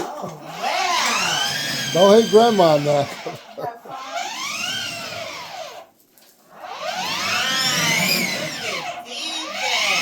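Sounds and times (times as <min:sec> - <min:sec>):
toy truck motors whining: 0:00.4 - 0:05.9, 0:06.6 - 0:10.0.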